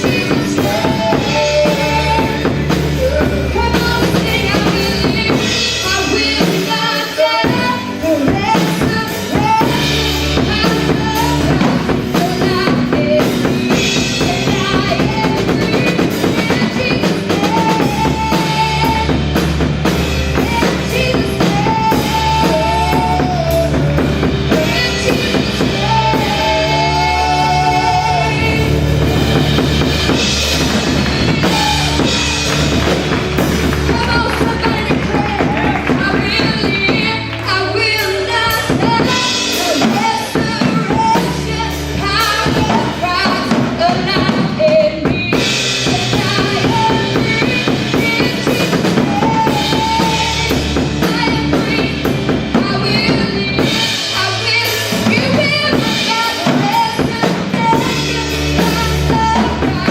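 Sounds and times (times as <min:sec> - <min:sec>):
people singing: 0:00.0 - 0:19.2, 0:20.3 - 0:29.8, 0:30.7 - 0:59.9
worship band playing: 0:00.0 - 0:59.9.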